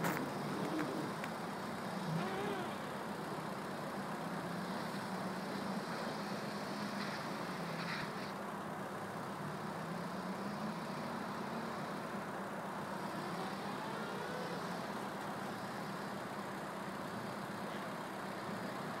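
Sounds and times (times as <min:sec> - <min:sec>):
distant car engine droning: 0:00.0 - 0:19.0.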